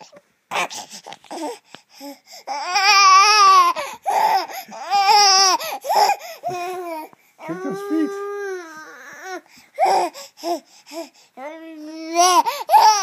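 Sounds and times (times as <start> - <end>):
baby babbling: 2.5 - 13.0.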